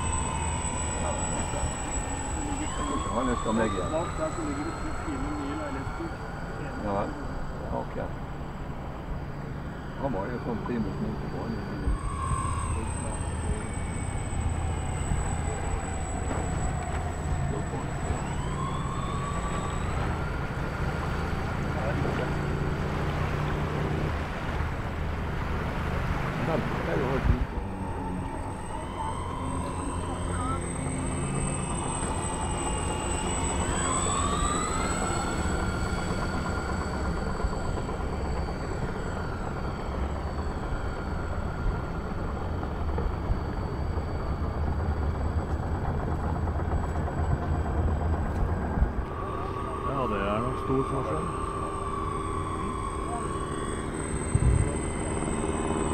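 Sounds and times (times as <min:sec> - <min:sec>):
model plane motors and propellers: 0:00.0 - 0:55.9
thin high whine: 0:00.0 - 0:55.9.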